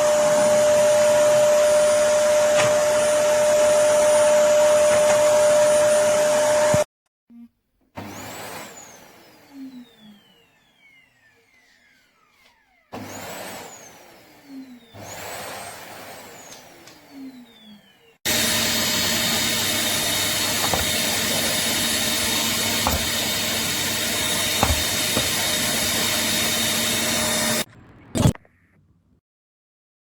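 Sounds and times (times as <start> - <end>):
vacuum cleaner motor: 0.0 - 6.8, 8.0 - 27.7.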